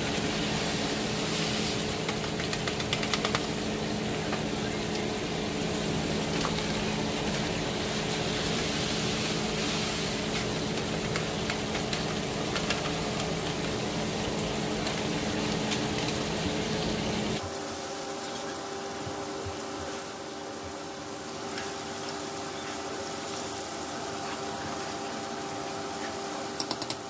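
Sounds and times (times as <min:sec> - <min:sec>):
pots bubbling and sizzling: 0:00.0 - 0:27.0.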